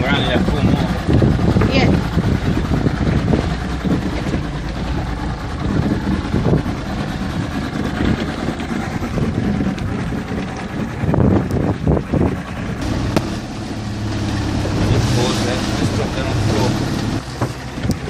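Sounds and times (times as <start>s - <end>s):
outboard motor running: 0.0s - 18.0s
wind rumble on microphone: 0.0s - 18.0s.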